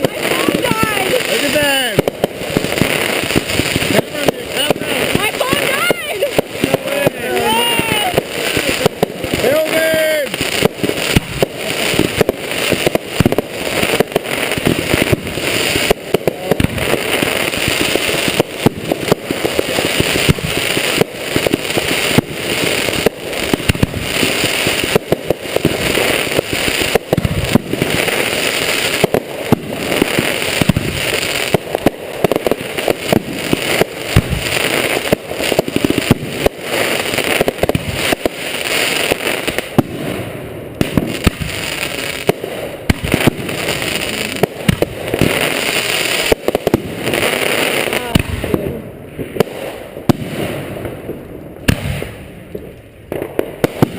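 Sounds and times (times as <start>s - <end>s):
fireworks banging and crackling: 0.0s - 53.9s.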